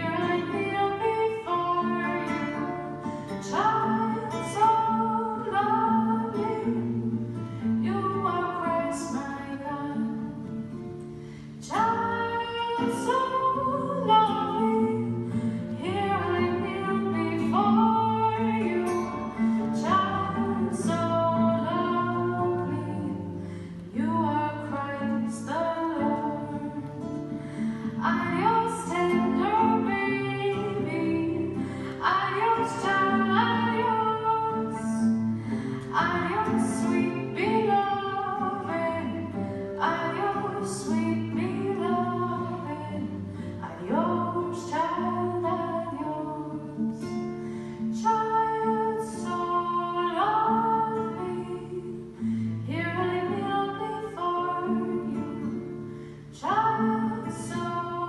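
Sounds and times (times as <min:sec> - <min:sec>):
acoustic guitar: 0:00.0 - 0:58.0
woman singing slow song: 0:00.0 - 0:58.0.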